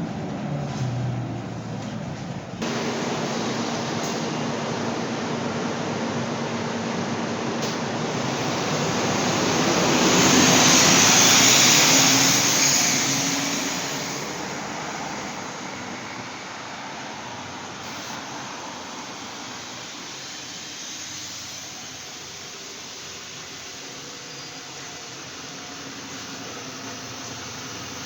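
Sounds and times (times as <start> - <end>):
bus interior engine and road noise: 0.0 - 28.0.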